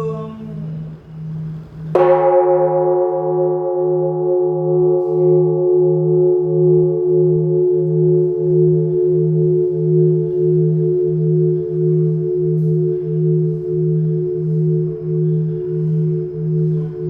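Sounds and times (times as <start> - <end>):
low pulsing hum: 0.0 - 17.0
temple bell ringing: 0.0 - 17.0.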